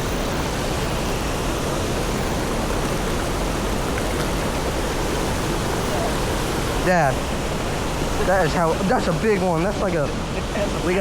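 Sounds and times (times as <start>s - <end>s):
fast-flowing stream: 0.0s - 11.0s.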